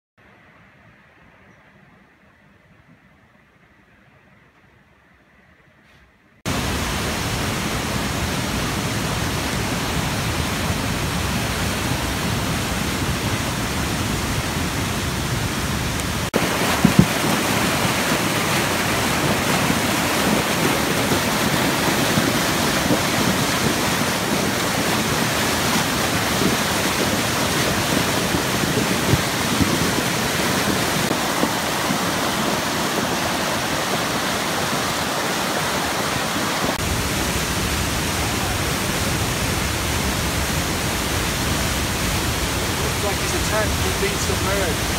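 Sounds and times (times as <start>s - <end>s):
floodwater rushing: 6.5s - 44.9s.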